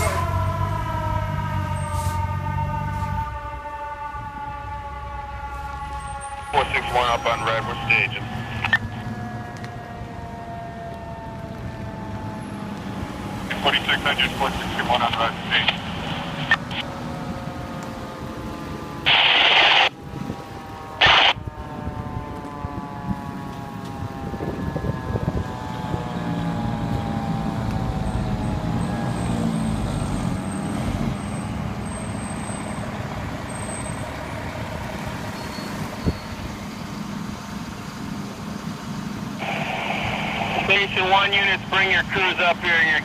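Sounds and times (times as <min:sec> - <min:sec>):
fire truck siren winding down: 0:00.0 - 0:43.0.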